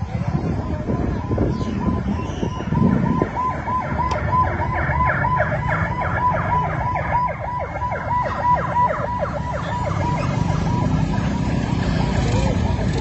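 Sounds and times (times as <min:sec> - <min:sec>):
electronic siren sweeping: 0:00.5 - 0:13.0.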